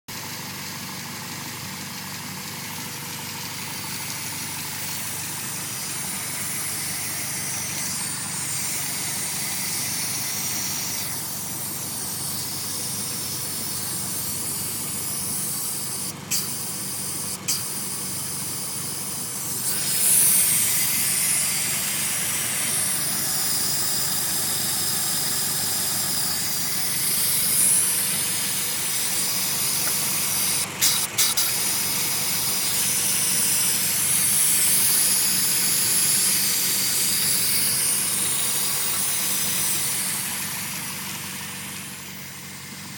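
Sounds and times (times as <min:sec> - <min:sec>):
car engine idling: 0:00.1 - 0:42.9
air hissing into intake: 0:03.5 - 0:42.9.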